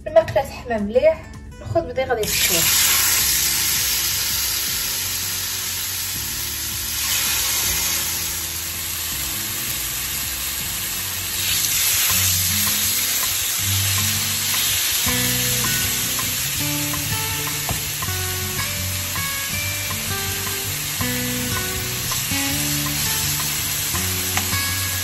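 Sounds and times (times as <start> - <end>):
soft background music: 0.0 - 25.0
chicken sizzling on a grill pan: 2.3 - 25.0.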